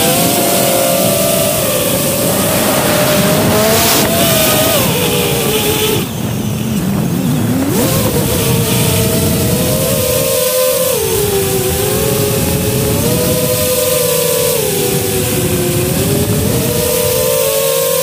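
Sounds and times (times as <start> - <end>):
drone motors whining: 0.0 - 18.0
wind noise: 0.0 - 18.0.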